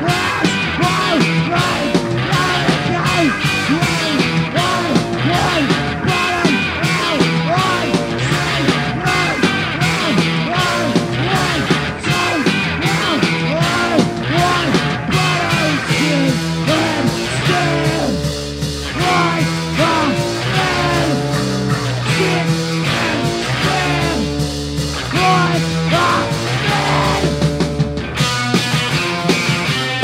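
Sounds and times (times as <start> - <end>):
garage punk song: 0.0 - 30.0.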